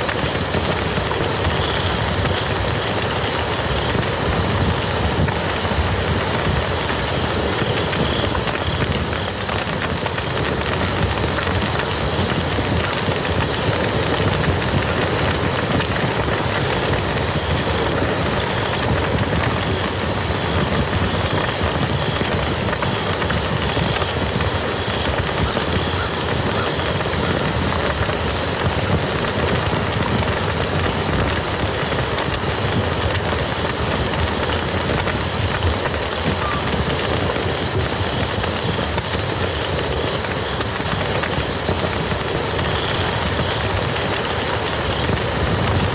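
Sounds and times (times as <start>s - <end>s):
river flowing: 0.0s - 45.9s
wood fire crackling: 0.0s - 45.9s.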